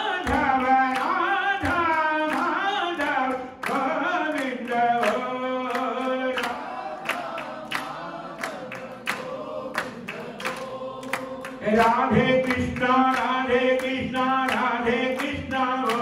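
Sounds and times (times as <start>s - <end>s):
group singing a chant: 0.0s - 16.0s.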